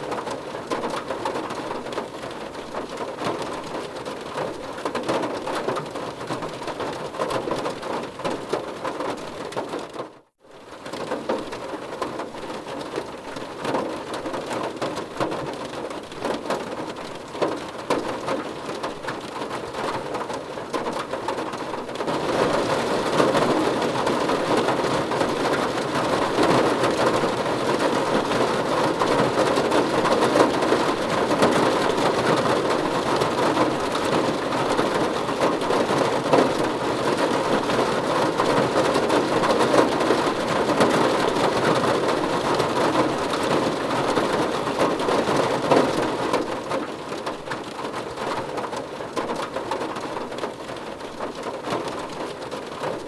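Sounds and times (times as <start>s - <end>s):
heavy rainfall: 0.0s - 53.0s.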